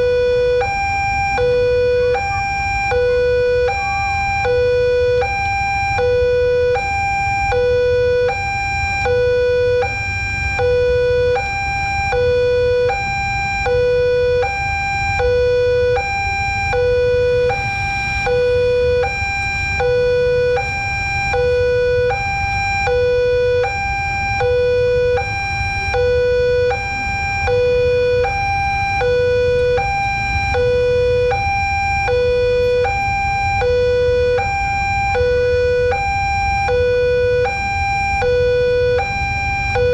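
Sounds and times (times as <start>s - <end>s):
level-crossing two-tone siren: 0.0s - 39.9s.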